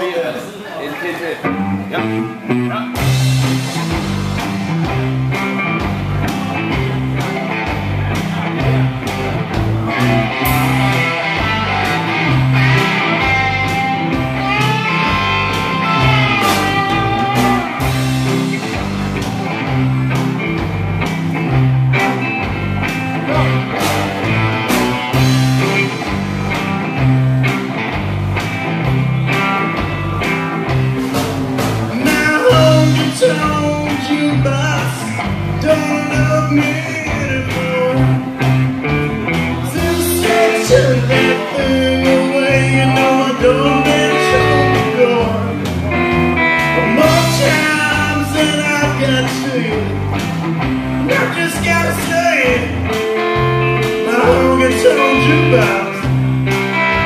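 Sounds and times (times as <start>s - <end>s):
electric guitars: 0.9s - 57.0s
drum kit: 1.4s - 57.0s
lead guitar bending notes: 1.4s - 57.0s
bass line: 1.5s - 57.0s.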